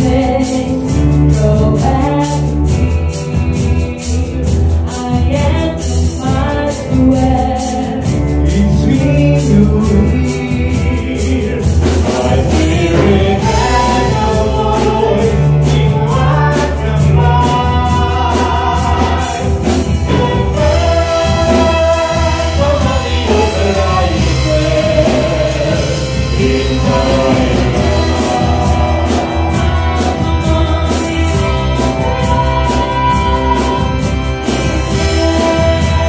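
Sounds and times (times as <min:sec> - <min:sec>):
woman singing into a microphone: 0:00.0 - 0:10.8, 0:12.1 - 0:34.3
electric keyboards: 0:00.0 - 0:36.0
low bass notes: 0:00.0 - 0:36.0.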